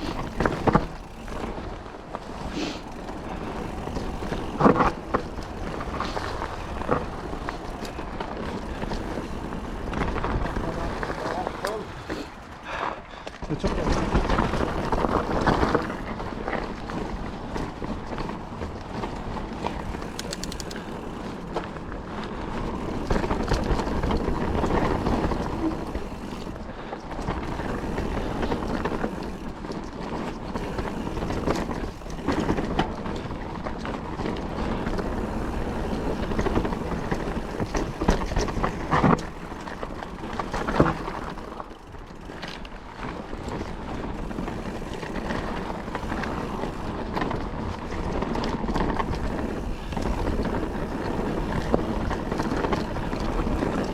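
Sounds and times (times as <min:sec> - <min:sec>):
bike clattering over bumps: 0:00.0 - 0:53.9
bike tyres on dirt and gravel: 0:00.0 - 0:53.9.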